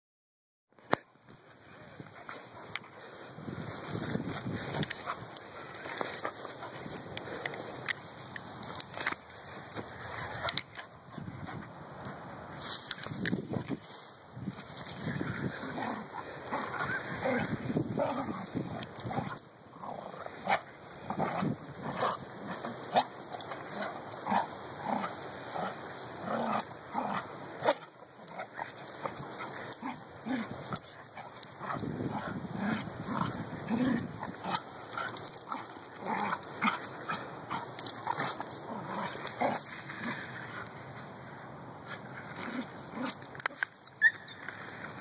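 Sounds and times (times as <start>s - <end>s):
dogs play-fighting vocalizing: 1.7s - 11.8s, 14.5s - 45.0s.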